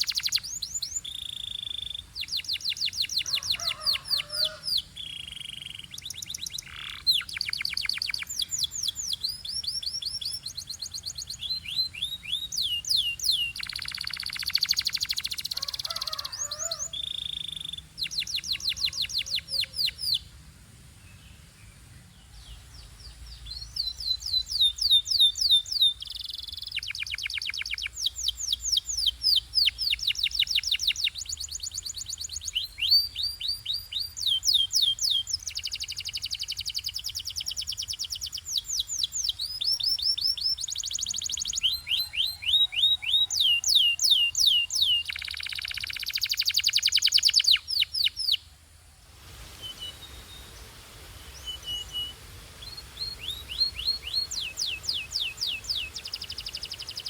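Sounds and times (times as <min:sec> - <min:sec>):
canary singing trills: 0:00.0 - 0:20.3, 0:23.1 - 0:48.5, 0:49.5 - 0:57.0.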